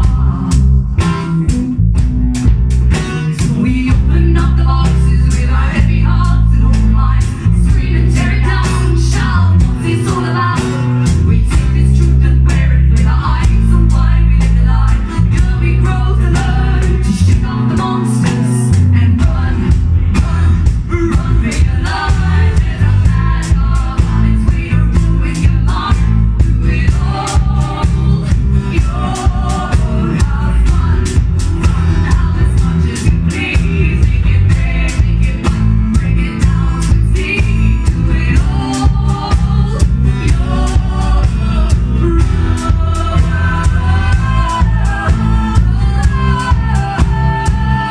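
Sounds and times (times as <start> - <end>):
person singing: 0.0 - 1.8, 3.4 - 47.9
guitar: 0.0 - 47.9
heavy bass line: 0.0 - 47.9.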